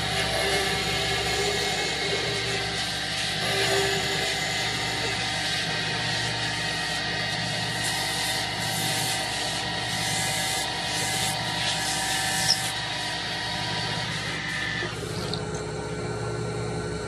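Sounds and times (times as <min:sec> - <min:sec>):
lathe motor hum: 0:00.0 - 0:16.8.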